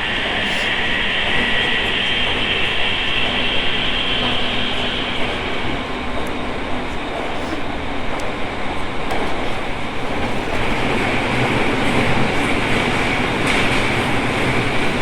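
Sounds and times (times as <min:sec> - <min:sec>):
high whine of traction motor: 0:00.0 - 0:15.0
train rumble and rail noise: 0:00.0 - 0:15.0.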